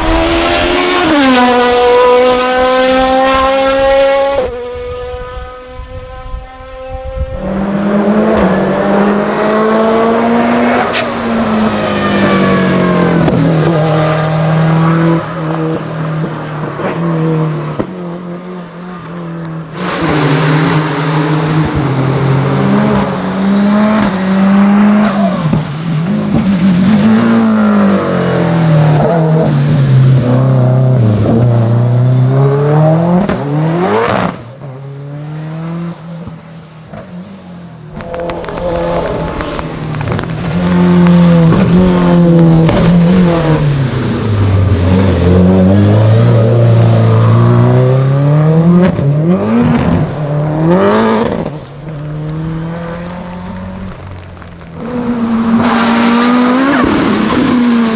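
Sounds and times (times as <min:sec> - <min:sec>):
race car engine at full throttle: 0:00.0 - 0:57.9.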